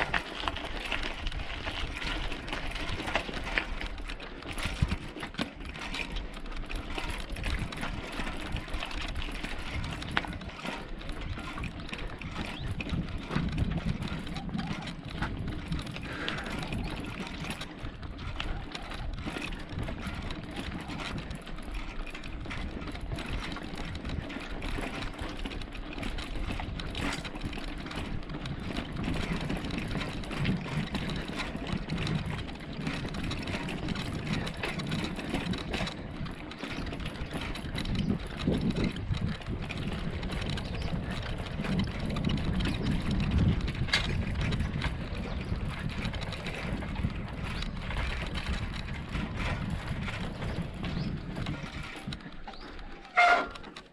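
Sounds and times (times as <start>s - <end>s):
bicycle tyres rumbling: 0.0s - 53.9s
small rattles and clicks: 0.0s - 53.9s
wind on microphone: 7.2s - 21.6s, 22.2s - 53.8s.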